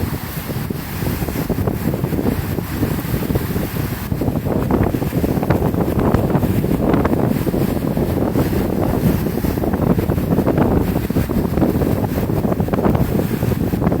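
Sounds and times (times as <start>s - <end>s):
ocean surf: 0.0s - 14.0s
wind rumbling on microphone: 0.0s - 14.0s.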